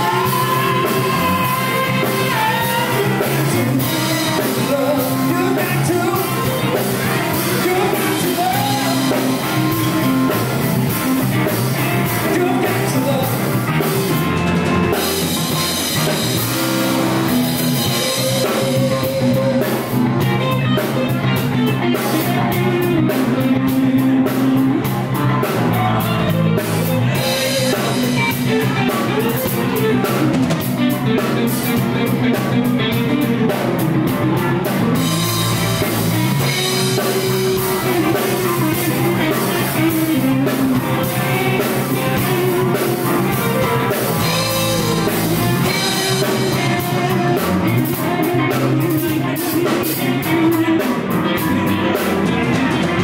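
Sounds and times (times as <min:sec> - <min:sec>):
drum kit: 0:00.0 - 0:53.0
electric bass: 0:00.0 - 0:53.0
electric guitars: 0:00.0 - 0:53.0.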